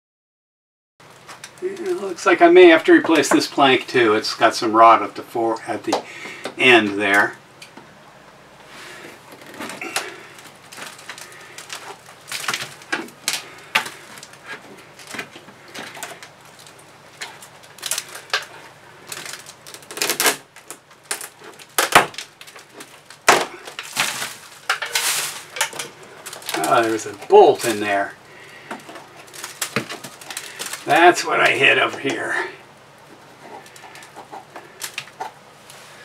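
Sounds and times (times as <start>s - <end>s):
rotten wood cracking and splintering: 1.1s - 7.3s, 8.8s - 35.8s.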